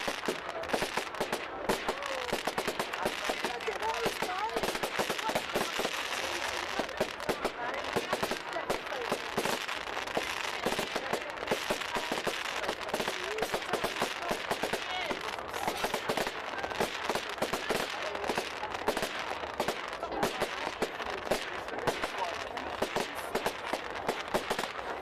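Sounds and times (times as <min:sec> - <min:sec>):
fireworks bangs and crackles: 0:00.0 - 0:25.0
voices in background: 0:00.0 - 0:25.0.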